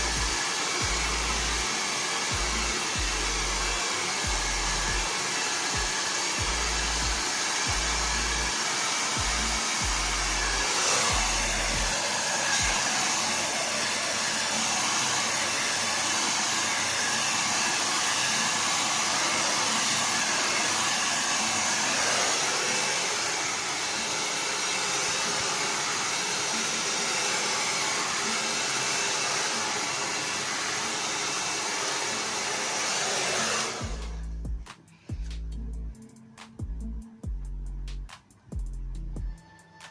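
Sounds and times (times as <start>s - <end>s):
hair dryer blowing: 0.0s - 35.4s.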